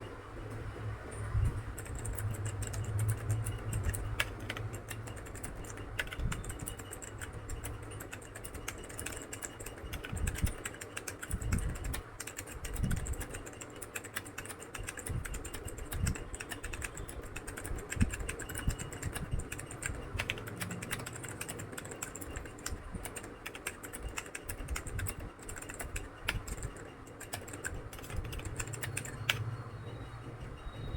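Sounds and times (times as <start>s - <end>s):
fast laptop keyboard typing: 1.4s - 30.8s.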